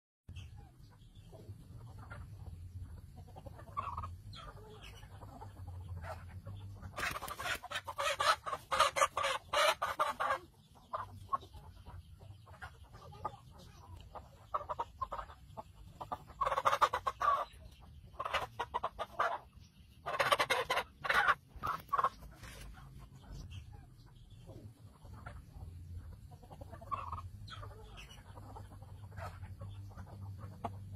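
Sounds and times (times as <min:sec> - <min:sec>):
chicken squawking and clucking: 0:00.4 - 0:30.9.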